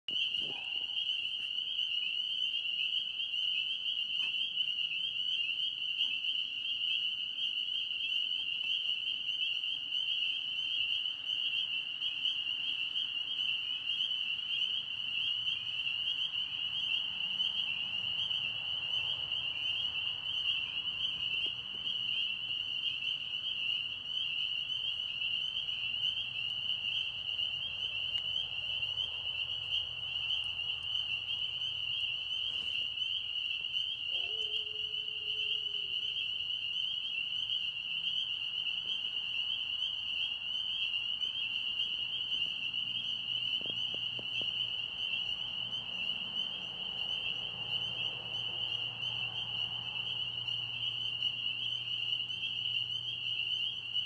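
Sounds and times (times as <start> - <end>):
frogs calling: 0.1 - 54.0.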